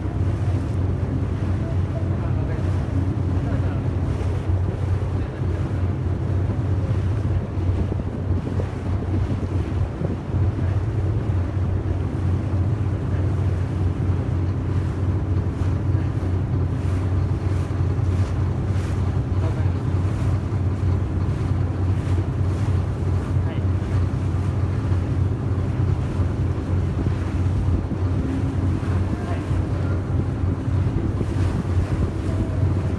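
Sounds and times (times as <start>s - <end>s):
boat engine droning: 0.0s - 32.9s
water rushing along hull: 0.0s - 32.9s
wind buffeting microphone: 0.0s - 32.9s.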